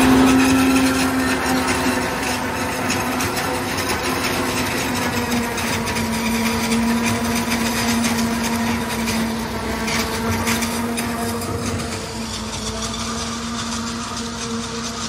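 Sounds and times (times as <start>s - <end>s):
tractor machine drone: 0.0s - 15.0s.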